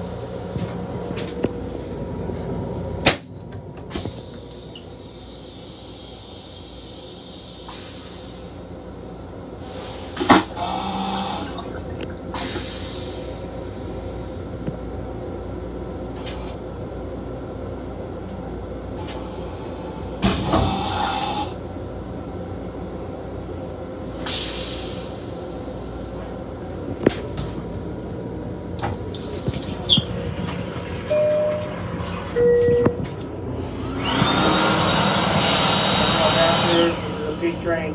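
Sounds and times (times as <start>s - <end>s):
train rumbling: 0.0s - 37.9s.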